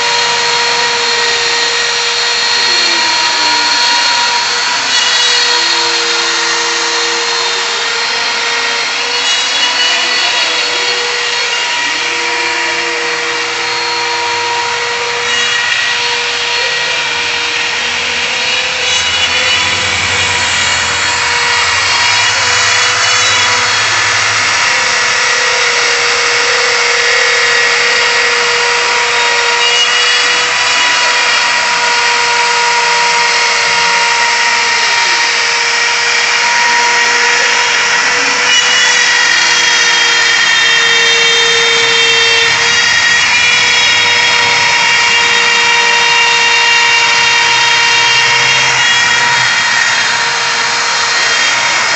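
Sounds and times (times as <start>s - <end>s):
router bit cutting wood: 0.0s - 51.9s
router motor whining: 0.0s - 51.9s.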